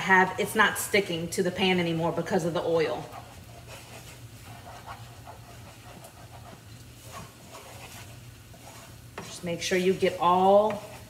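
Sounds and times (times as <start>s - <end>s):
wooden spoon scraping a pan: 0.0s - 11.0s.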